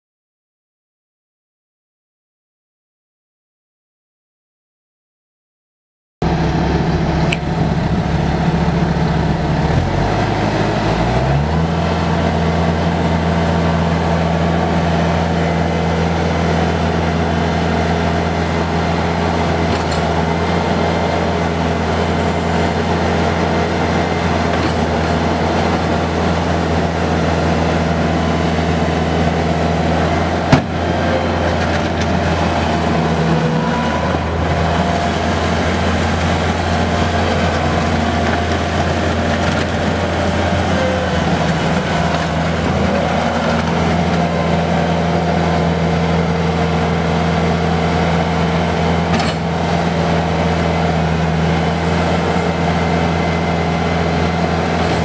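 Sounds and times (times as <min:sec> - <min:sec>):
diesel engine running: 0:06.2 - 0:55.0.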